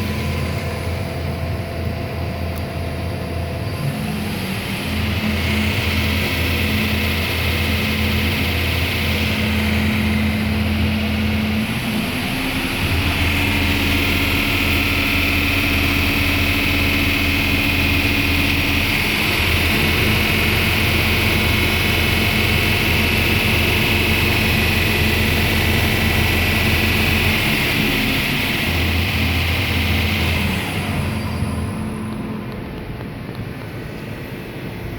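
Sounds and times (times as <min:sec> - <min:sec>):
lathe machine hum: 0:00.0 - 0:34.9
rising machine tone: 0:03.8 - 0:33.3.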